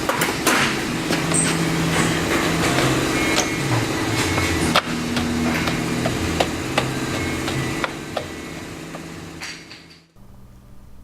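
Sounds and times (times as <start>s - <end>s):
car engine running: 0.0s - 9.8s.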